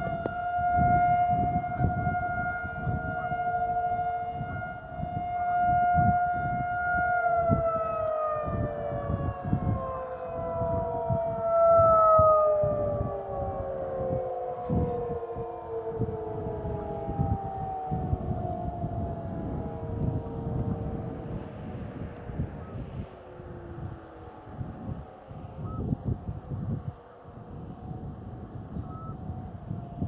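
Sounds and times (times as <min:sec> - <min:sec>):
outdoor warning sirens: 0:00.0 - 0:30.0
wind buffeting microphone: 0:00.0 - 0:30.0.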